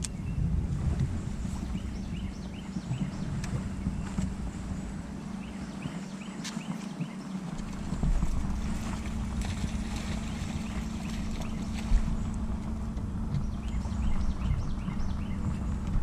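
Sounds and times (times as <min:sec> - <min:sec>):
deck and water rumble: 0:00.0 - 0:16.0
electric trolling motor humming: 0:00.0 - 0:16.0.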